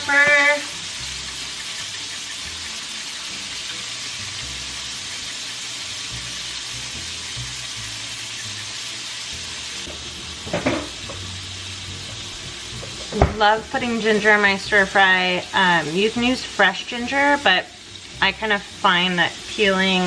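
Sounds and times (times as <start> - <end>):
tofu sizzling in hot oil: 0.0 - 20.0.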